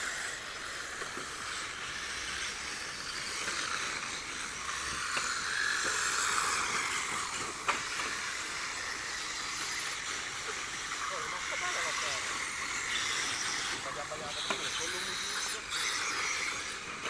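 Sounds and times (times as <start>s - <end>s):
rc cars on dirt: 0.0s - 17.0s.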